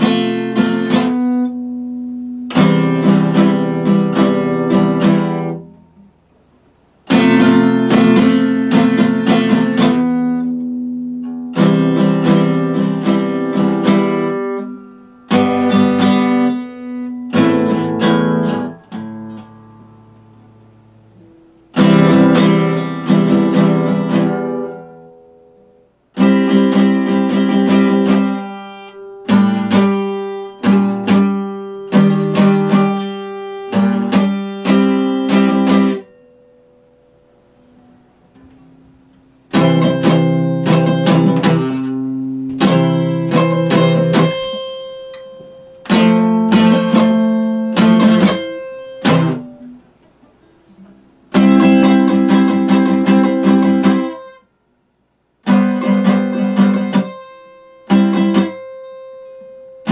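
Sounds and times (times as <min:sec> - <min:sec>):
acoustic guitar strummed chords: 0:00.0 - 0:59.9.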